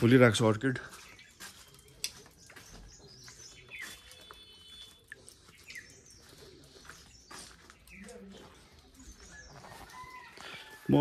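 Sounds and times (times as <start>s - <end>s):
faint bird chirps: 1.0s - 10.7s.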